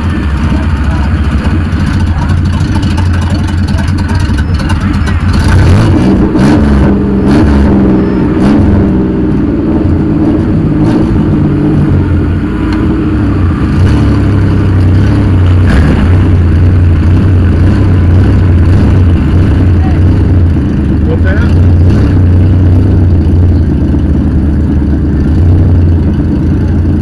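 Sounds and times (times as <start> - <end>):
van engine running and revving: 0.0 - 27.0.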